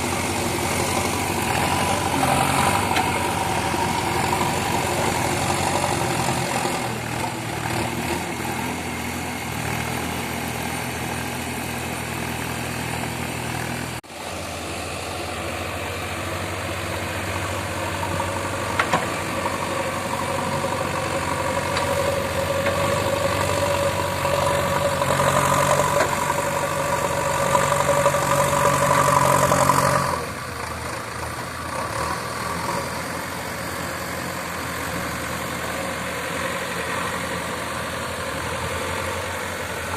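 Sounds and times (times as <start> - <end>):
digger diesel engine running: 0.0 - 39.9.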